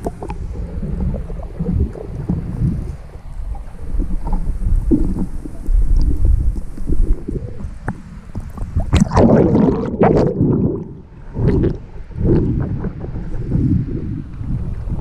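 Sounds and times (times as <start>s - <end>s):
muffled underwater rumble: 0.0s - 15.0s
underwater bubbling and gurgling: 0.0s - 15.0s.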